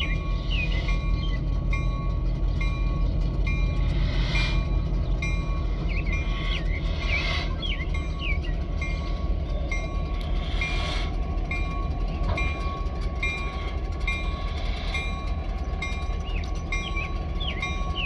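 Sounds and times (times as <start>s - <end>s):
crossing bell ringing: 0.0s - 18.0s
train rolling slowly: 0.0s - 18.0s.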